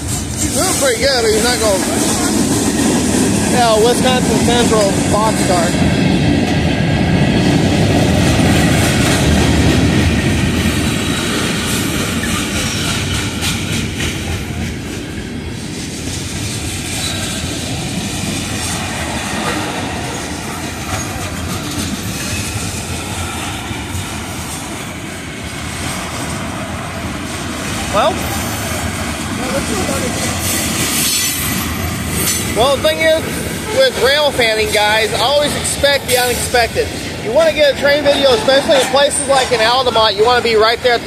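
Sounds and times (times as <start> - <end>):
freight train rumbling past: 0.0 - 41.0
wheels clacking over rail joints: 0.0 - 41.0.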